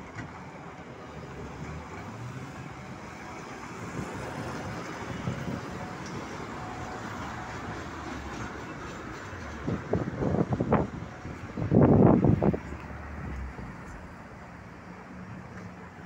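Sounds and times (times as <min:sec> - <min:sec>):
street traffic noise: 0:00.0 - 0:16.0
trolleybus pulling in: 0:00.0 - 0:16.0.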